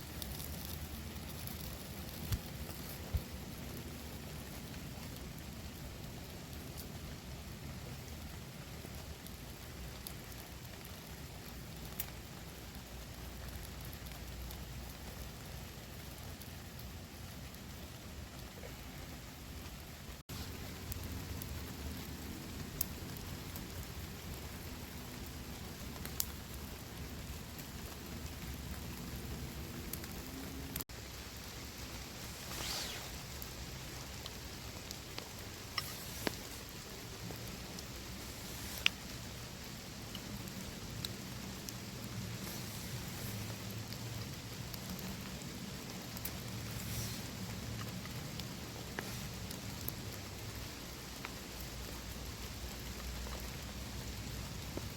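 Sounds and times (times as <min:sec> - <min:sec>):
sharp ticks of raindrops: 0:00.0 - 0:54.9
steady rain falling: 0:00.0 - 0:54.9.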